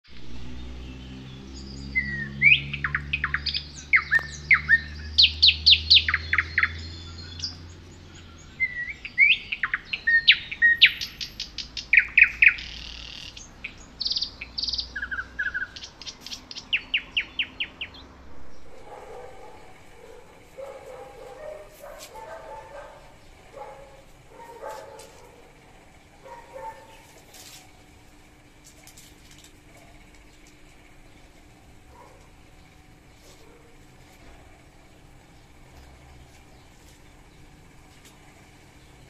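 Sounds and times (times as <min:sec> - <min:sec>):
songbird singing: 0:00.1 - 0:39.0.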